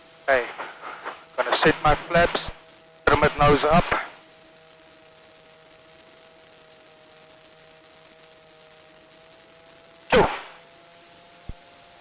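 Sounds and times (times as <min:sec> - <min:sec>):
electrical hiss: 0:00.0 - 0:12.0
thin steady whine: 0:00.0 - 0:12.0.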